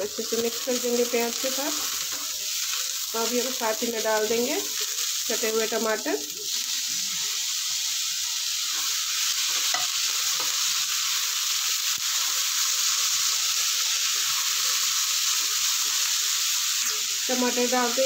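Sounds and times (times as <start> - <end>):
vegetables frying in oil: 0.0 - 18.0.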